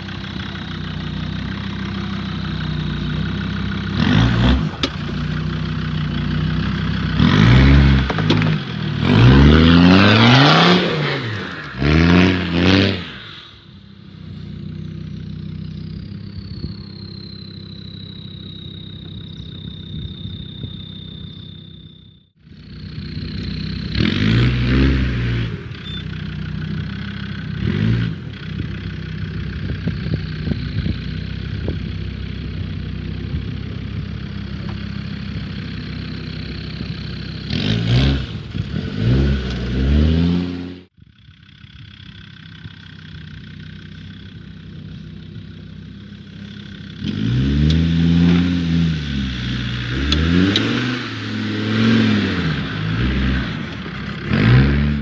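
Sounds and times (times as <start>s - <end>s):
diesel engine revving: 0.0s - 41.0s, 42.0s - 55.0s.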